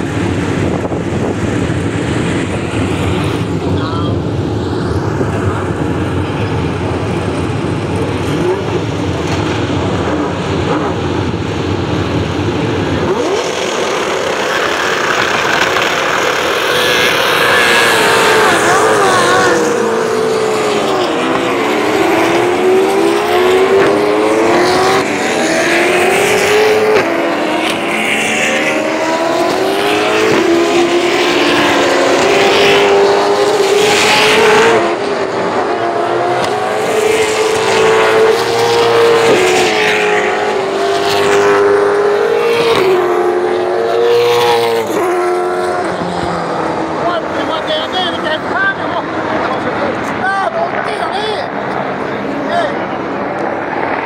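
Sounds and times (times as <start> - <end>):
race car engines rumbling: 0.0 - 54.0
race cars revving past: 0.0 - 54.0.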